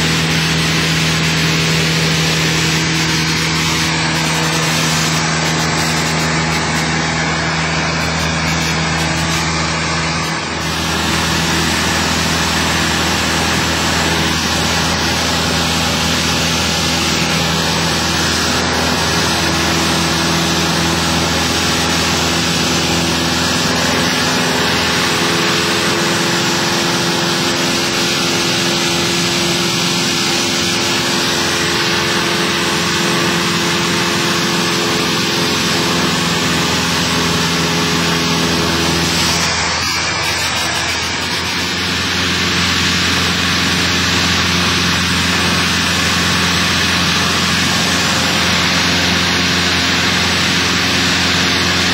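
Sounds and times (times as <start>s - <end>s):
propeller engine droning: 0.0s - 51.9s
rushing air noise: 0.0s - 51.9s.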